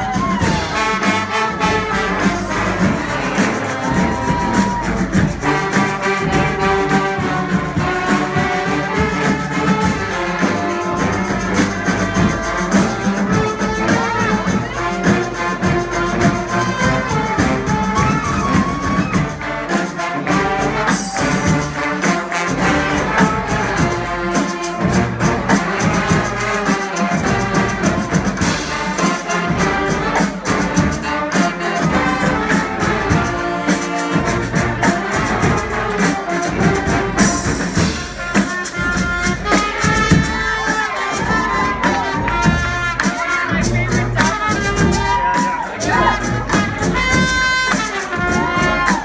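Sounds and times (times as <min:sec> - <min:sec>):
brass horns playing melody: 0:00.0 - 0:49.0
steady drum beat: 0:00.0 - 0:49.0.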